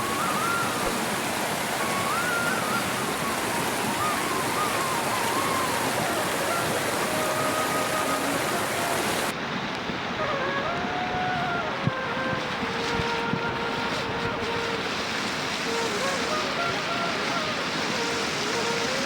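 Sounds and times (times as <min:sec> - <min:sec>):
rushing water hiss: 0:00.0 - 0:19.0.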